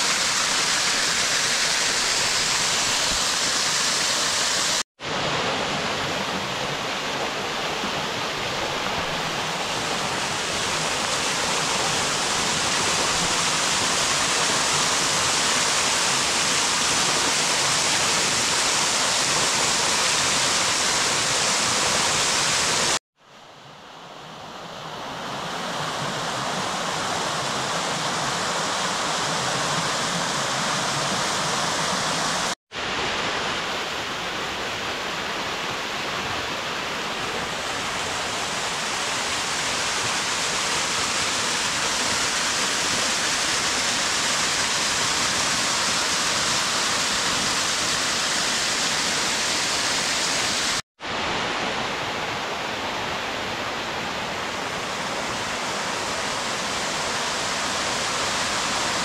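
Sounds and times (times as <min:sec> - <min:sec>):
waterfall splashing over rock: 0:00.0 - 0:23.0, 0:25.8 - 0:34.8, 0:35.5 - 0:52.3, 0:54.3 - 0:59.0.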